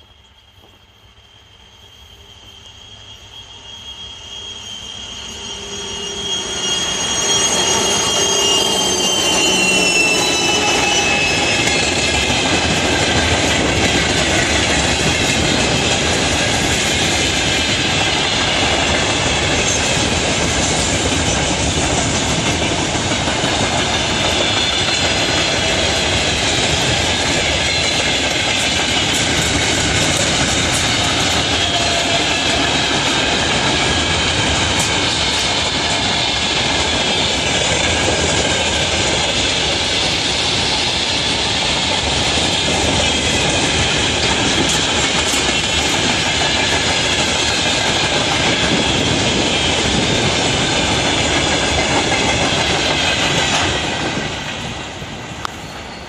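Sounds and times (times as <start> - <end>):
train wheels on track: 0.0 - 56.0.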